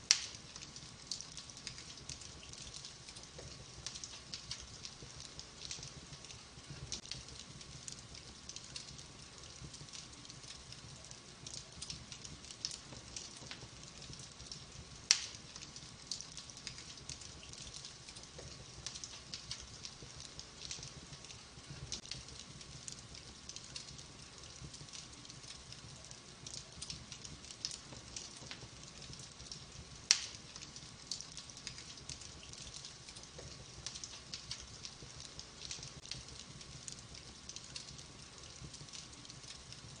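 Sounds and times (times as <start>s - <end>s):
loud fire pops: 0.0s - 10.4s, 11.0s - 25.4s, 26.0s - 39.4s
wood fire crackling: 0.0s - 40.0s.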